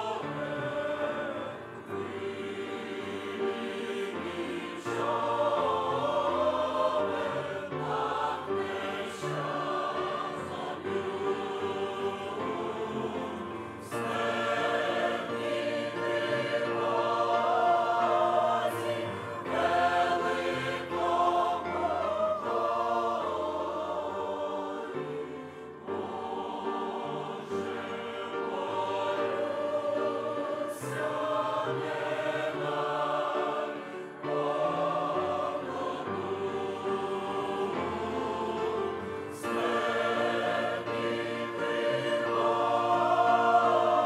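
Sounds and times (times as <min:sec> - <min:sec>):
choir singing a hymn: 0:00.0 - 0:44.0.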